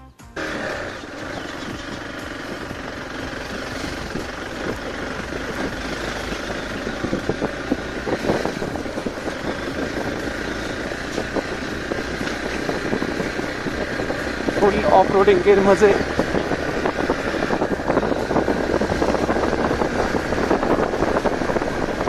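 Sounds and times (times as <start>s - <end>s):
motorcycle engine running: 0.1s - 22.0s.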